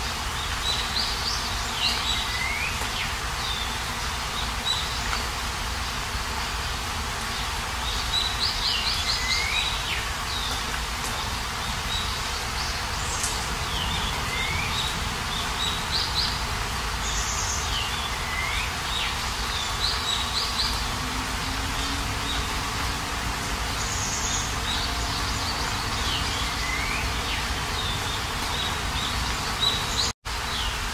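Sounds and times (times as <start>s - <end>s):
songbird chirping: 0.0s - 30.8s
steady rain falling: 0.0s - 30.9s.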